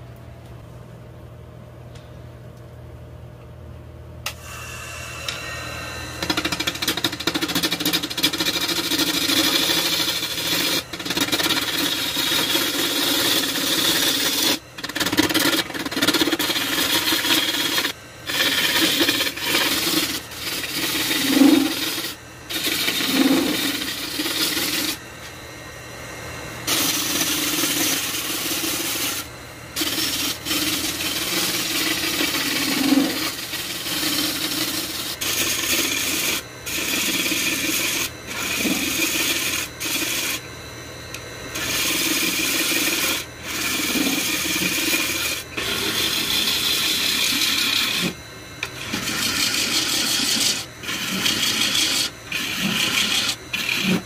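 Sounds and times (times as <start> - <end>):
lathe humming: 4.3 - 54.0
gouge scraping wood: 6.2 - 25.0, 26.7 - 40.4, 41.6 - 54.0.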